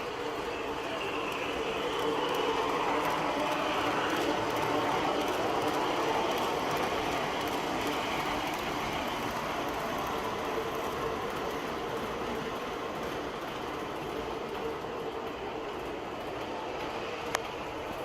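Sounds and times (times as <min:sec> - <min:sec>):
subway train rumble and rail noise: 0:00.0 - 0:18.0.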